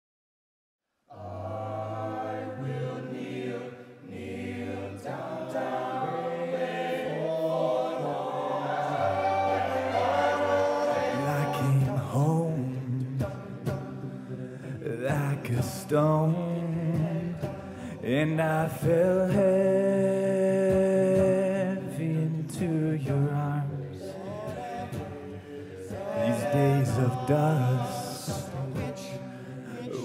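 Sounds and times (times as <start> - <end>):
male a cappella group singing: 1.1 - 30.0.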